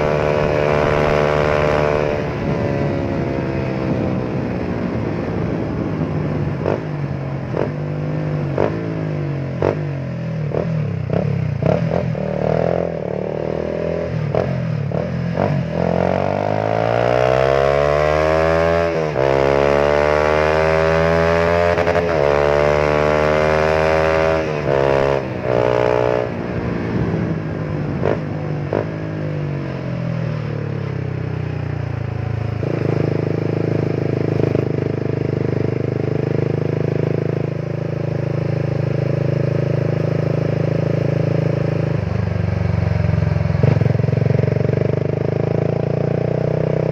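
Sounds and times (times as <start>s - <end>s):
motorcycle engine revving and idling: 0.0s - 46.9s.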